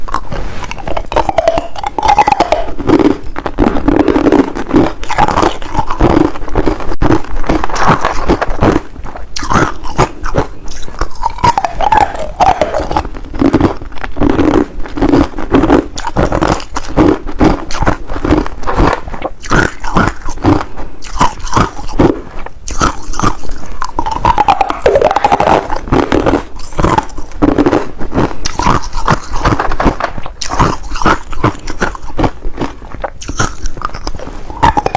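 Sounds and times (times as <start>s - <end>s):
ice being chewed: 0.0s - 34.9s.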